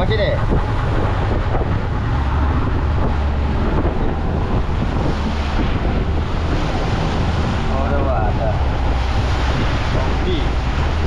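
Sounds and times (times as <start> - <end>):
boat engine humming: 0.0 - 11.0
water and waves rushing: 0.0 - 11.0
wind on microphone: 0.0 - 11.0.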